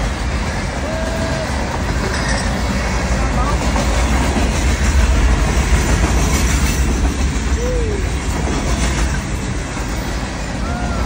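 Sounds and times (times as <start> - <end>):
freight train rumbling past: 0.0 - 11.0
wheels clacking over rail joints: 0.0 - 11.0.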